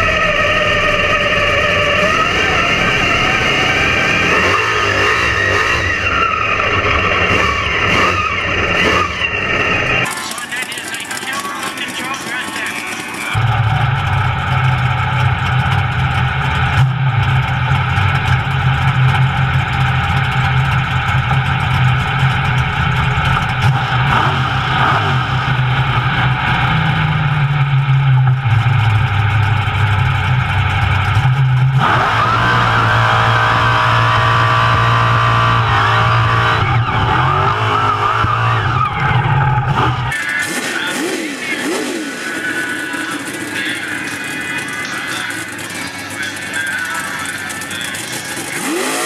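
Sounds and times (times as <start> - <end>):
high whine: 0.0 - 49.0
truck engine running hard: 0.0 - 49.0.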